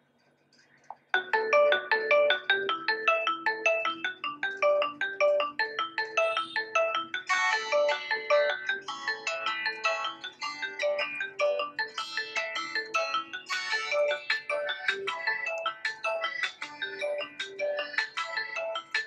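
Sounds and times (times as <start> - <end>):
phone ringtone melody: 1.2 - 19.0.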